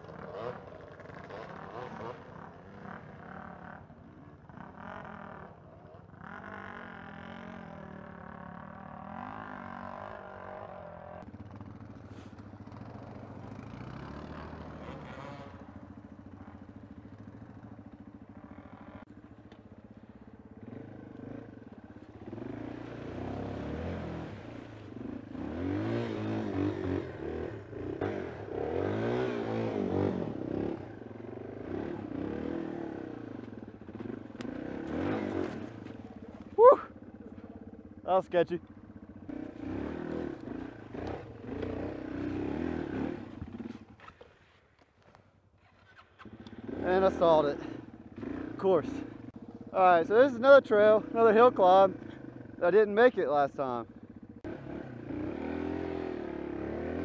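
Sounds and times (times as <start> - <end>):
motorcycle engine revving: 0.0 - 44.5, 45.6 - 57.0.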